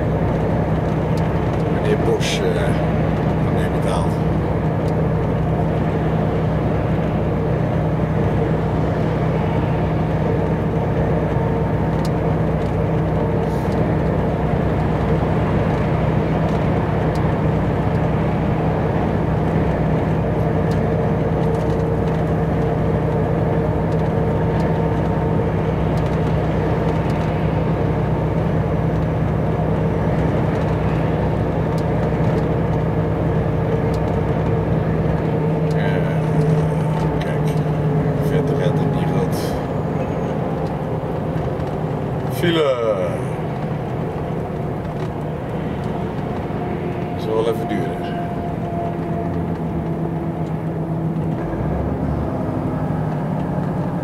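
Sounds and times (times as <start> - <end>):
truck engine hum: 0.0 - 54.0
tyre and road noise: 0.0 - 54.0.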